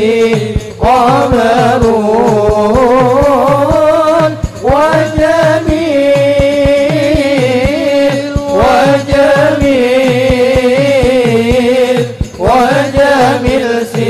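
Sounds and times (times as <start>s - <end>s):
men singing in unison: 0.0s - 14.0s.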